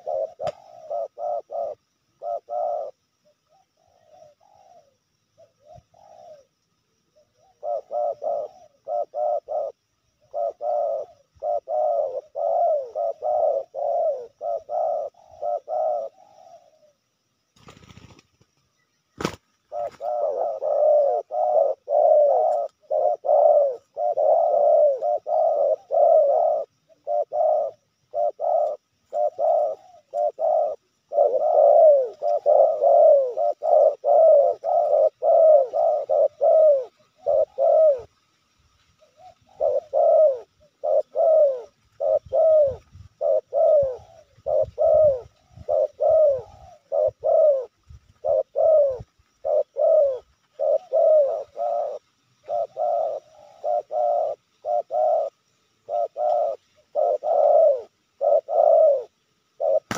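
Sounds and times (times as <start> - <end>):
doves cooing: 0.0 - 38.2, 39.0 - 59.9.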